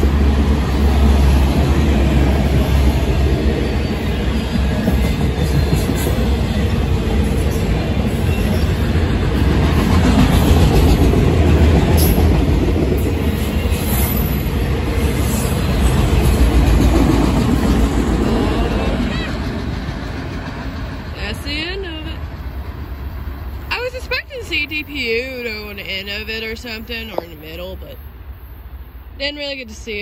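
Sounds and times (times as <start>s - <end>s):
freight train wheels clattering on rails: 0.0s - 25.7s.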